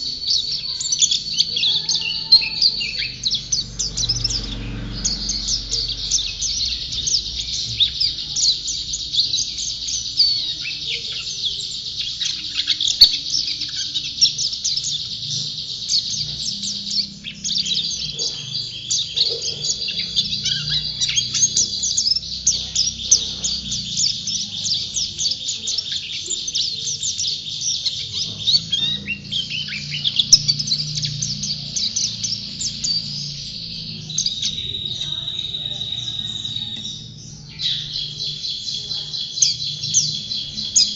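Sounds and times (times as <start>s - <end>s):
bird twittering song: 0.0s - 40.9s
faint low hum: 0.0s - 40.9s.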